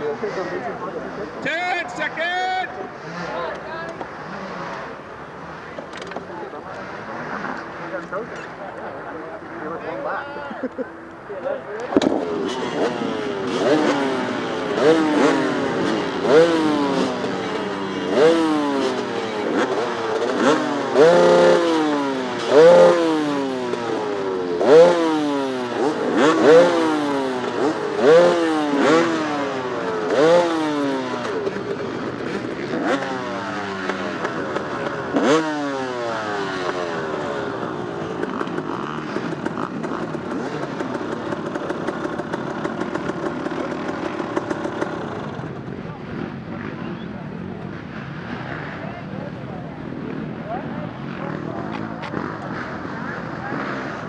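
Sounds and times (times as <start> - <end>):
dirt bike engine revving: 0.0 - 10.0, 11.8 - 48.8, 49.7 - 54.0.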